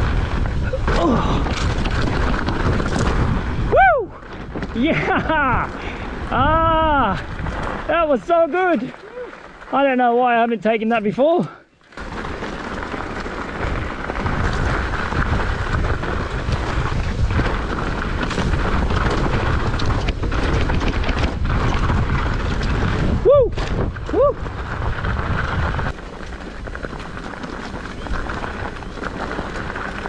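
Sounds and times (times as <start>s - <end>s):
wind buffeting microphone: 0.0s - 9.4s, 12.0s - 30.0s
bike tyres clattering on trail: 0.0s - 30.0s.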